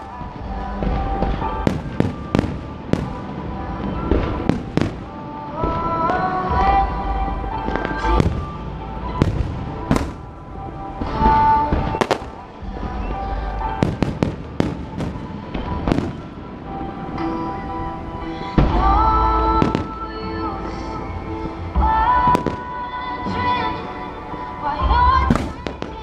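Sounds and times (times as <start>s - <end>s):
fireworks bursting with sharp bangs: 0.0s - 6.8s, 7.5s - 23.9s, 24.9s - 26.0s
music playing: 0.0s - 26.0s.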